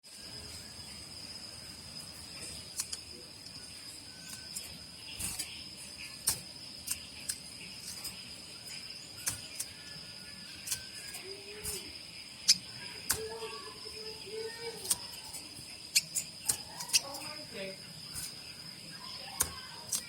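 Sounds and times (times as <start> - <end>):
high-pitched insect drone: 0.1 - 20.0.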